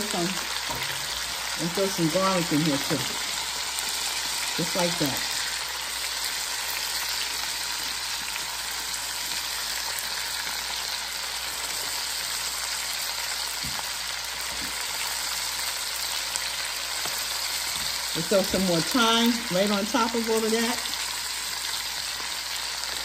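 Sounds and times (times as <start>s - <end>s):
vegetables sizzling in a pot: 0.0s - 23.0s.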